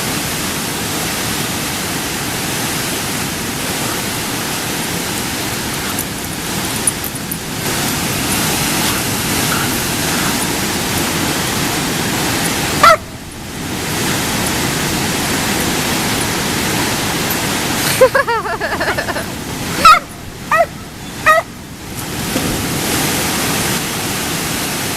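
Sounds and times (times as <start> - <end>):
waterfall roaring: 0.0 - 24.9.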